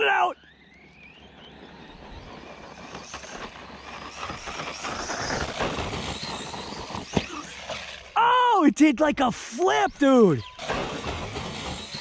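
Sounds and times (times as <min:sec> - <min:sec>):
toy truck motor and tyres on dirt: 0:00.0 - 0:08.4, 0:09.3 - 0:12.0.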